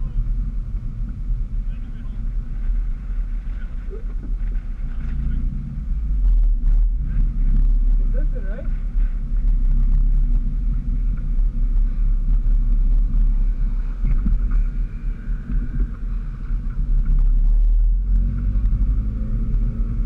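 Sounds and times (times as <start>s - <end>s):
car rolling with low rumble: 0.0s - 20.0s.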